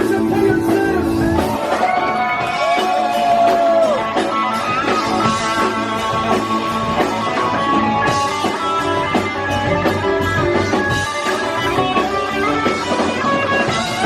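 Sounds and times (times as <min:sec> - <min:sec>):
electric guitar: 0:00.0 - 0:14.0
rock band playing live: 0:00.0 - 0:14.0.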